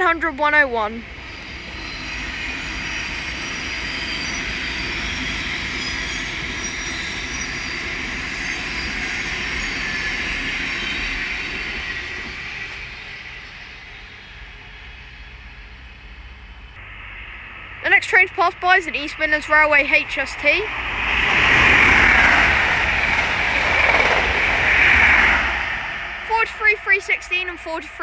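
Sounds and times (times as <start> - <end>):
high-pitched train whine: 0.0 - 28.0
train wheels rushing on rail: 0.0 - 28.0.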